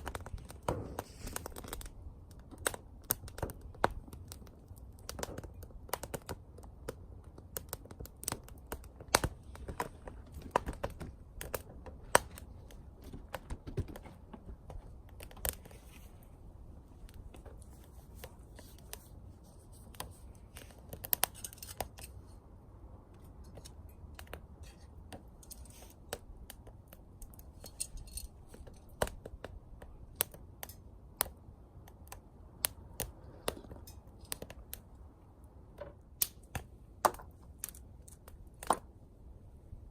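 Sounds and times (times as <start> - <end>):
low steady rush of fire: 0.0 - 39.9
wood crackling in stove: 0.0 - 39.9.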